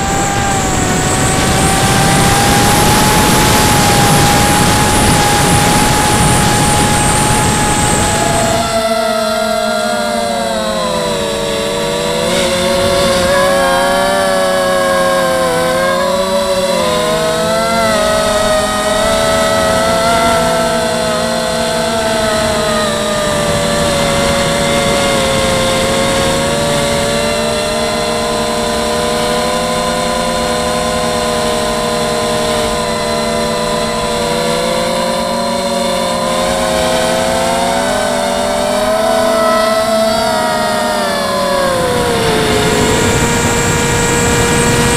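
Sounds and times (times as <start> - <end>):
quadcopter propellers whining: 0.0 - 44.9.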